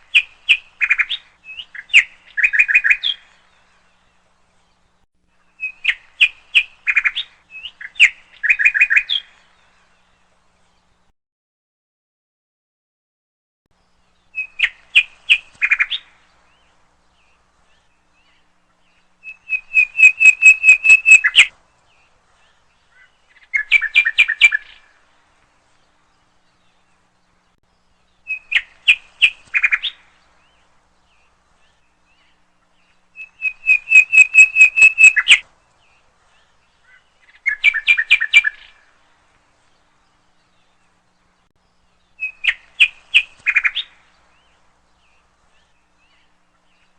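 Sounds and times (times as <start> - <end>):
bird singing rapid chirps: 0.1 - 4.1, 4.8 - 11.0, 13.8 - 24.9, 25.9 - 39.0, 39.8 - 46.9.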